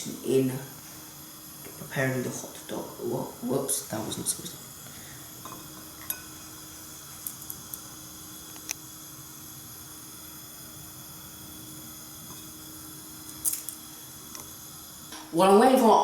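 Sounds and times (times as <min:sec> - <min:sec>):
faint hiss and hum: 0:00.0 - 0:16.0.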